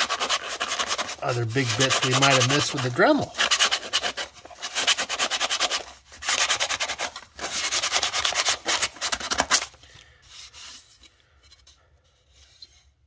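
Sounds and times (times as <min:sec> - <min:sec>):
sandpaper rubbing plastic: 0:00.0 - 0:10.9.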